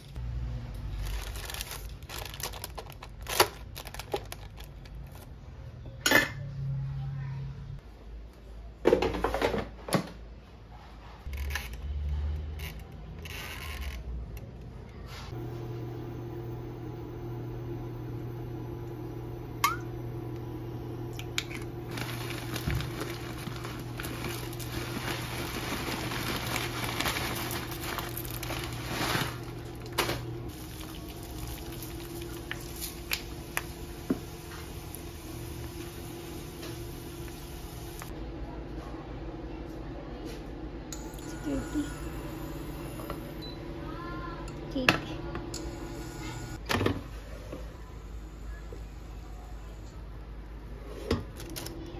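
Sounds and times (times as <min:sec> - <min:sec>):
electrical hum of cooktop: 0:00.0 - 0:51.9.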